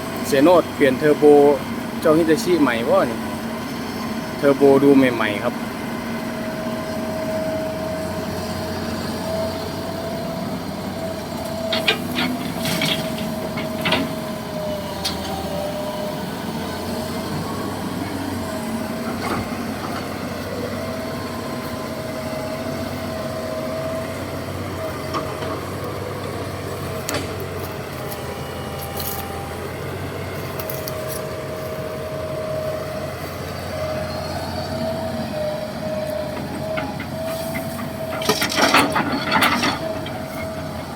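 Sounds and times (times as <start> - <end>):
diesel machinery humming: 0.0 - 40.9.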